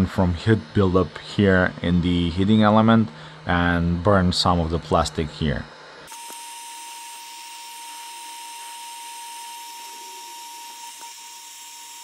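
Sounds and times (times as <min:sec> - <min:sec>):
hot air gun fan whine: 0:00.0 - 0:12.0.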